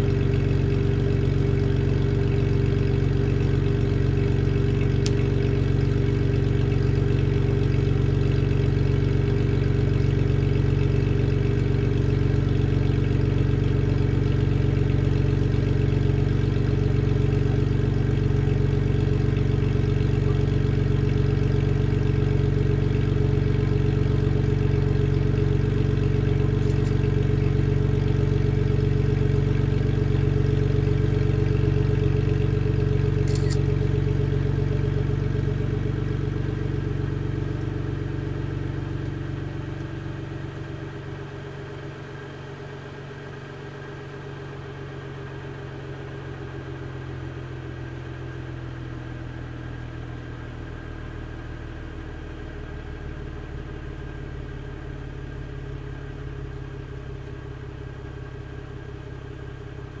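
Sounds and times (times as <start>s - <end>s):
car engine idling: 0.0s - 60.0s.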